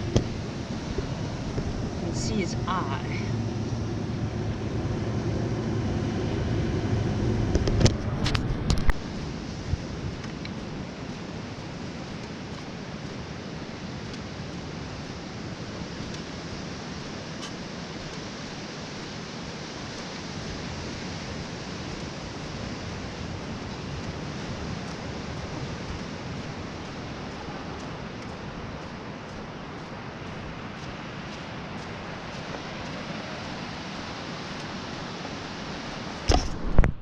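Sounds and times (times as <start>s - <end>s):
sea on rocky shore: 0.0s - 37.0s
wind: 0.0s - 37.0s.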